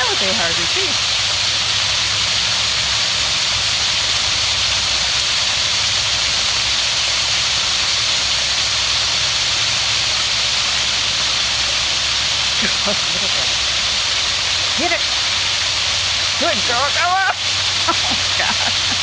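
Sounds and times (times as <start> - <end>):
small waterfall rushing: 0.0 - 19.0.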